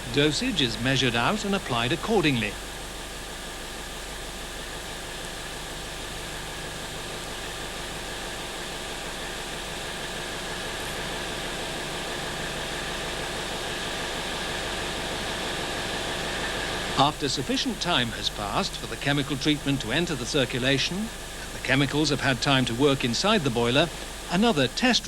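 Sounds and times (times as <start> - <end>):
engine room machinery hum: 0.0 - 25.0.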